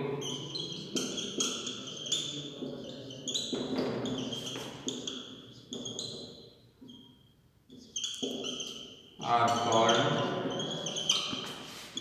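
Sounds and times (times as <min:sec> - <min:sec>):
marker squeaking on whiteboard: 0:00.2 - 0:12.0.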